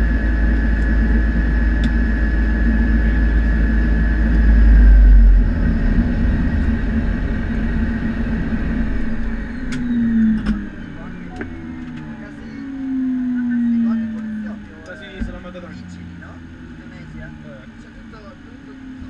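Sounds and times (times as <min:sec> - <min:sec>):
propeller drone: 0:00.0 - 0:19.0
turbine whine: 0:00.0 - 0:19.0.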